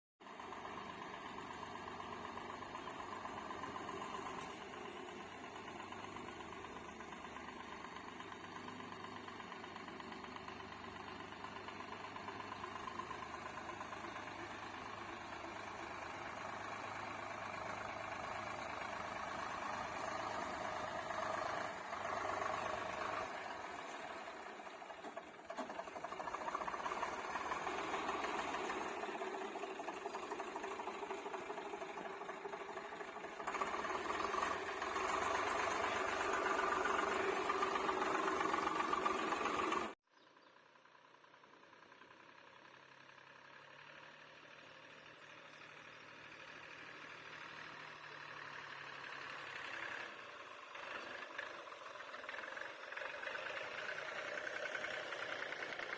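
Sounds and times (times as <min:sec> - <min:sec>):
tractor diesel engine running: 0:00.2 - 0:55.9.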